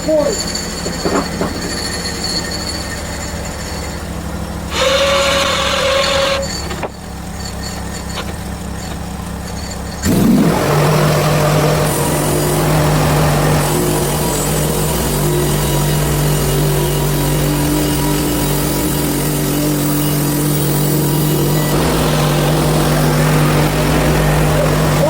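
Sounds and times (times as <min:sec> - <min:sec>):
gas engine running: 0:00.0 - 0:25.0.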